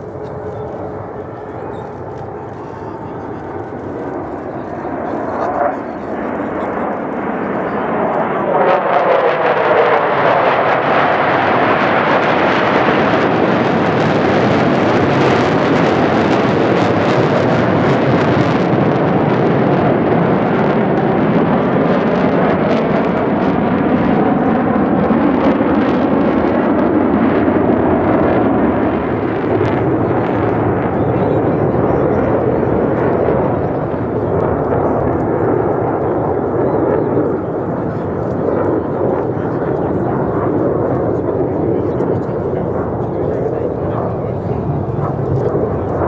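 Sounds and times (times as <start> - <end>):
fighter jet engines roaring: 0.0 - 46.0.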